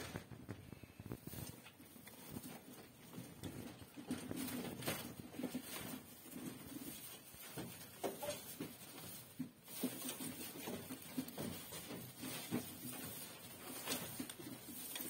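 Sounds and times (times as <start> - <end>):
rabbit rustling through dry straw: 0.0 - 15.0.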